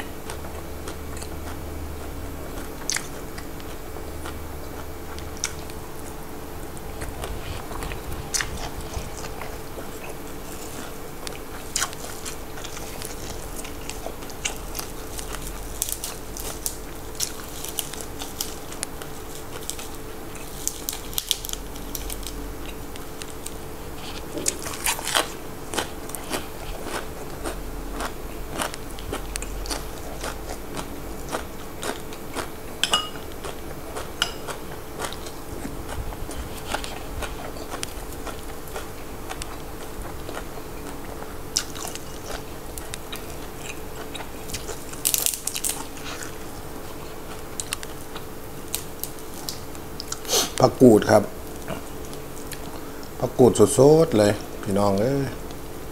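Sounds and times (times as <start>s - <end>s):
crunching raw vegetables: 0.0s - 55.9s
faint steady hum: 0.0s - 55.9s.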